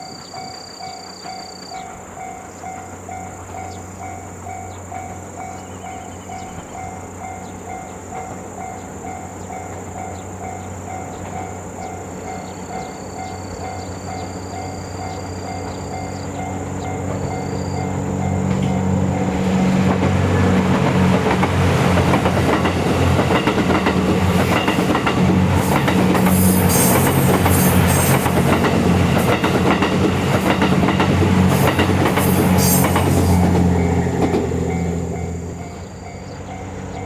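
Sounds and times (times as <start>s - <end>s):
wheels clicking over rail joints: 0.0s - 12.9s, 15.1s - 37.0s
train passing: 0.0s - 37.0s.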